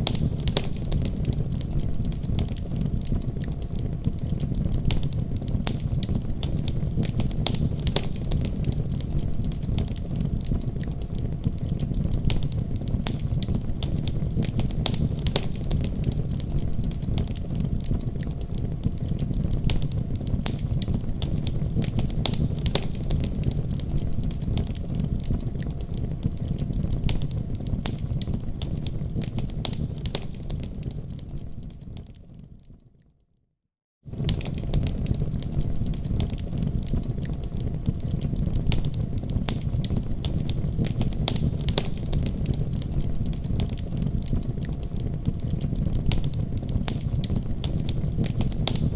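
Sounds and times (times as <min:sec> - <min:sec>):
fire crackling and popping: 0:00.0 - 0:32.8, 0:34.1 - 0:48.9
fire rumbling: 0:00.0 - 0:32.8, 0:34.1 - 0:48.9.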